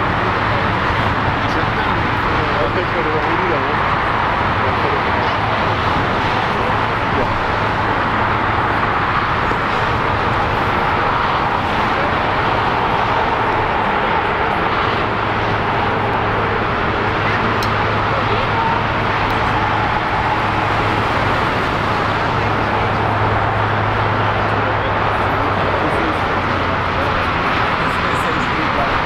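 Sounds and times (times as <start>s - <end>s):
jet aircraft rushing: 0.0s - 29.0s.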